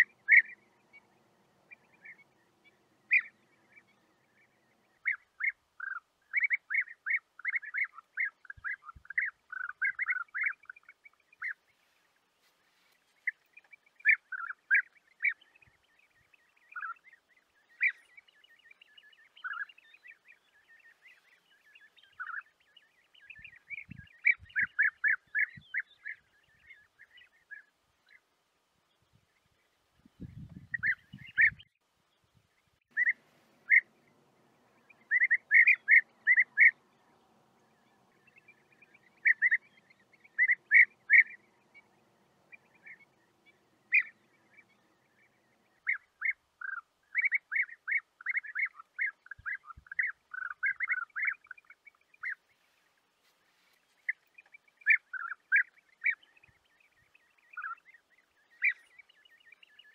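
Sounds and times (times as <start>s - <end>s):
birds calling in quick clusters: 0.0s - 28.2s, 29.6s - 31.8s, 32.9s - 59.9s.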